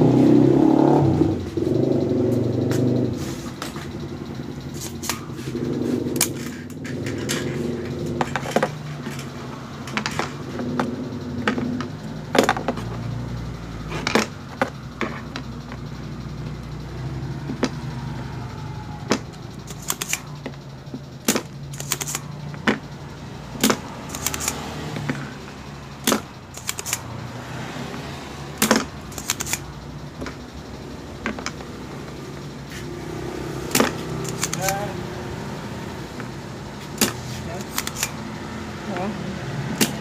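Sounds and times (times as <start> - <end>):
desoldering pump clicking: 3.4 - 40.0.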